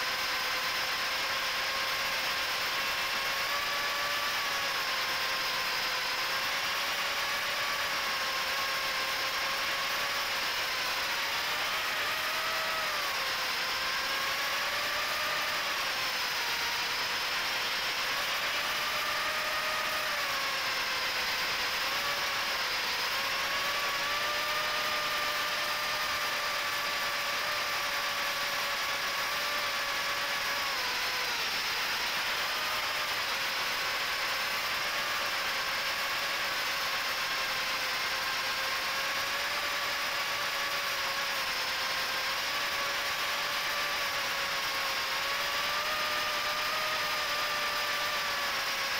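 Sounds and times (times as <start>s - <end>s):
quadcopter motors whining: 0.0s - 48.9s.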